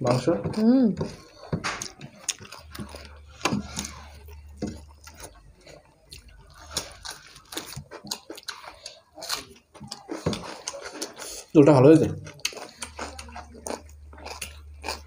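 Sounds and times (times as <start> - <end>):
chewing: 0.0 - 15.0
fingers mixing food: 0.0 - 15.0.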